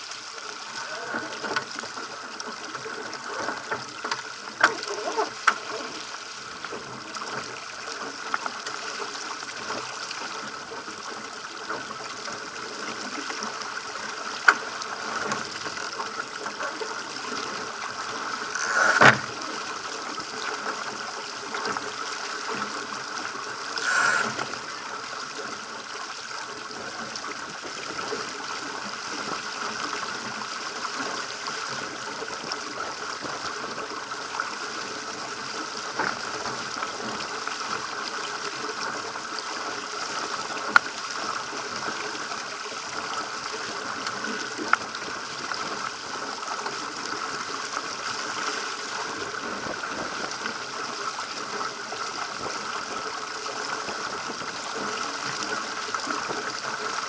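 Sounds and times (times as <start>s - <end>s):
water rushing along boat hull: 0.0s - 57.0s.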